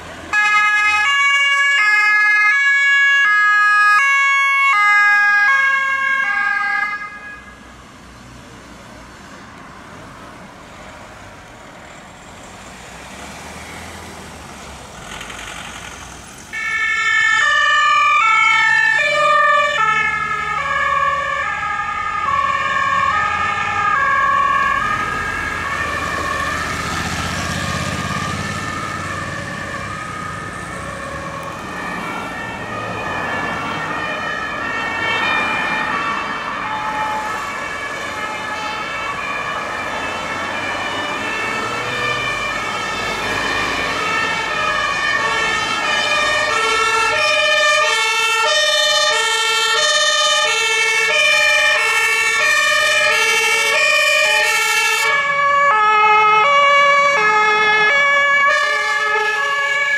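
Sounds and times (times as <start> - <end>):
two-tone emergency sirens: 0.0 - 8.0, 16.5 - 59.9.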